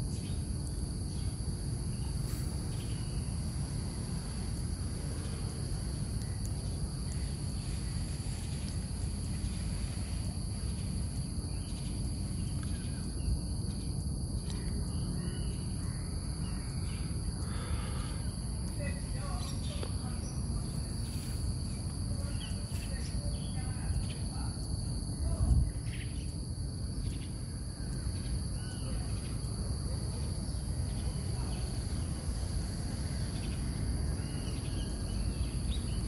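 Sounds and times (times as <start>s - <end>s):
insect chorus trilling: 0.0s - 36.0s.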